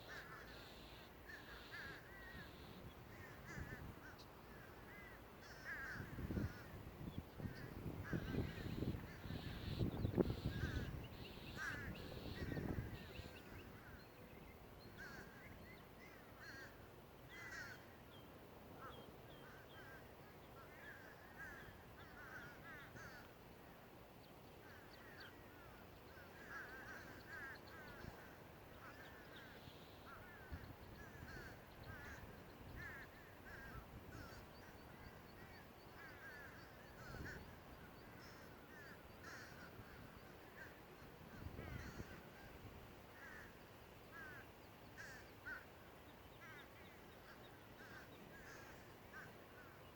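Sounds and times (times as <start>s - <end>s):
crows cawing: 0.0s - 6.8s, 7.5s - 14.0s, 15.0s - 18.0s, 18.8s - 23.4s, 24.6s - 45.8s, 46.4s - 49.9s.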